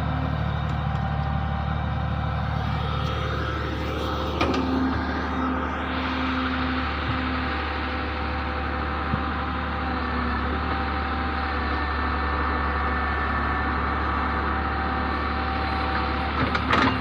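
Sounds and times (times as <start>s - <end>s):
backhoe diesel engine running: 0.0s - 17.0s.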